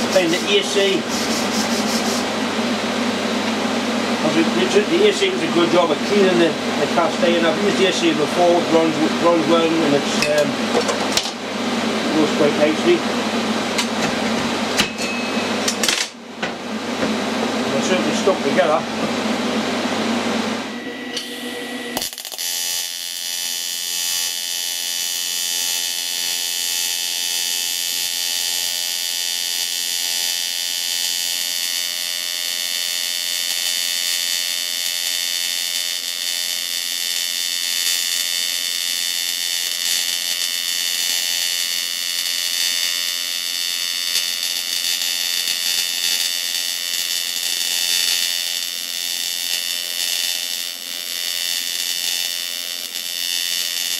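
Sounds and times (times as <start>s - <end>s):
welding arc buzzing: 0.0s - 53.9s.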